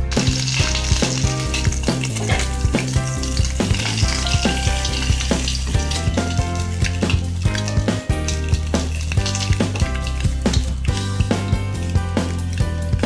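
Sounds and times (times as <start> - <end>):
background music with a beat: 0.0 - 13.0
eggs sizzling in hot oil: 0.0 - 13.0.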